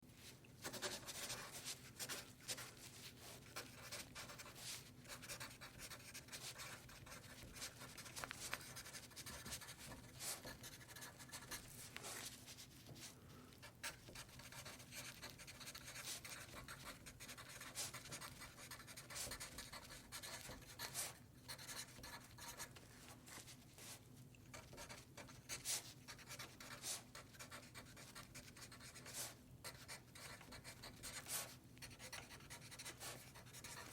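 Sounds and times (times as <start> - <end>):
faint low hum: 0.0 - 33.9
pen scratching on paper: 0.6 - 13.0, 13.7 - 22.7, 24.5 - 33.9.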